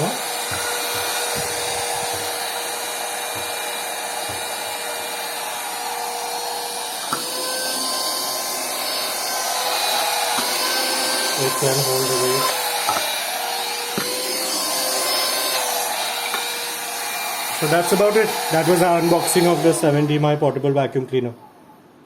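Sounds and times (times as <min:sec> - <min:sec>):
vacuum cleaner running: 0:00.0 - 0:20.8.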